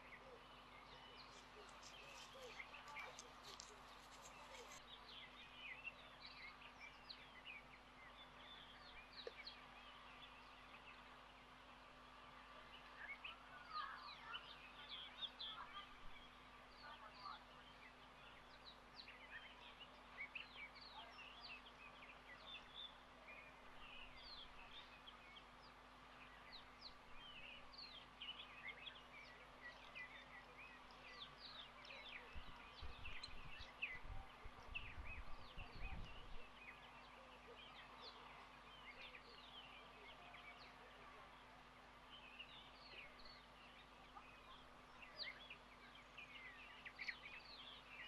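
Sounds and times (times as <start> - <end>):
faint steady hum: 0.0 - 48.0
small birds chirping: 0.0 - 48.0.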